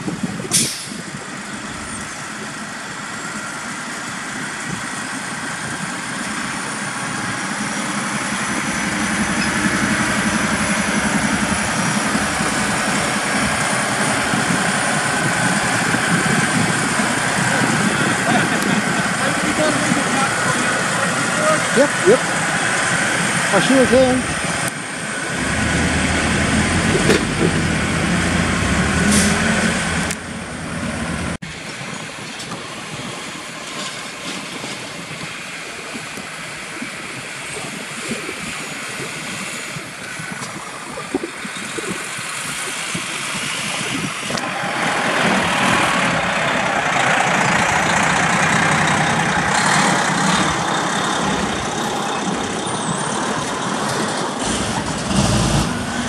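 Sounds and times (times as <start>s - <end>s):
road noise over rough ground: 0.0s - 56.0s
truck diesel engine running: 0.0s - 56.0s.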